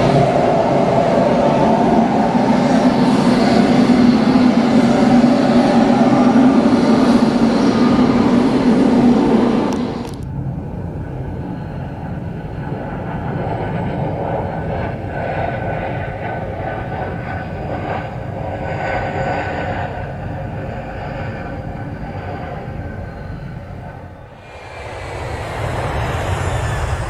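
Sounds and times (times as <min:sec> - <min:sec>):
jet engine noise: 0:00.0 - 0:27.0.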